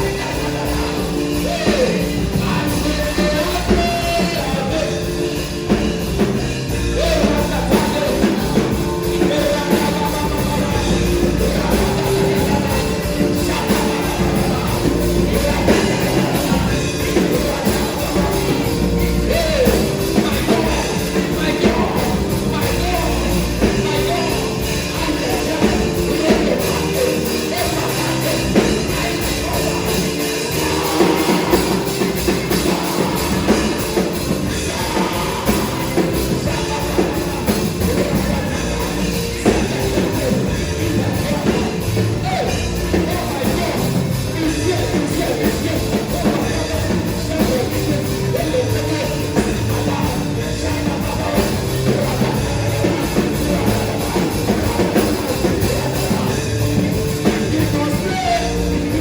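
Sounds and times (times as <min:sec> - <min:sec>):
drums keeping a steady beat: 0:00.0 - 0:59.0
keyboard chords: 0:00.0 - 0:59.0
voices singing: 0:00.0 - 0:59.0.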